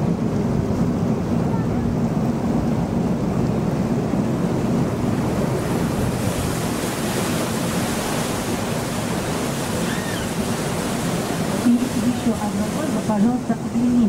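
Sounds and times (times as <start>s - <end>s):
water along boat hull: 0.0s - 14.0s.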